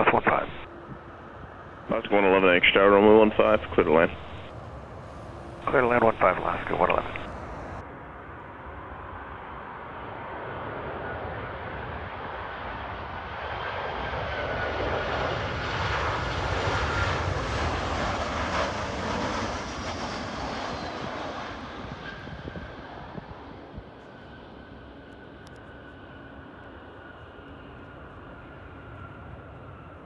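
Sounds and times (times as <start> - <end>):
jet engines rushing with high whine: 0.0 - 30.0.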